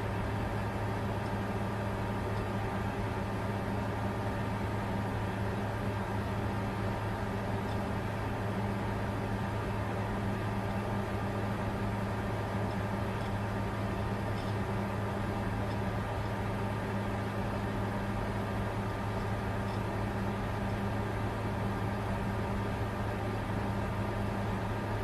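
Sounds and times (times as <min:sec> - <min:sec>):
computer cooling fans whirring: 0:00.0 - 0:25.0
constant low hum: 0:00.0 - 0:25.0.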